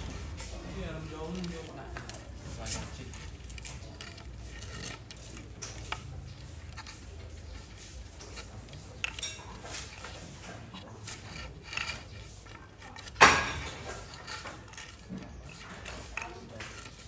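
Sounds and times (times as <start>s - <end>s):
bamboo poles knocking and clacking: 0.0s - 17.0s.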